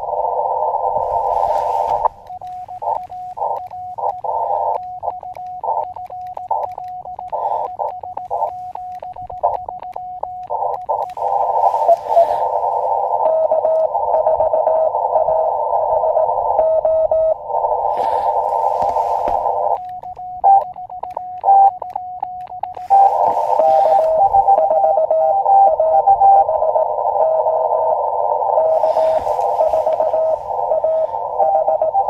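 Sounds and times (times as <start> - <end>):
radio receiver hiss: 0.0 - 21.2, 22.6 - 25.5, 26.8 - 32.0
faint morse signal: 0.0 - 32.0
morse code tone: 0.0 - 32.0.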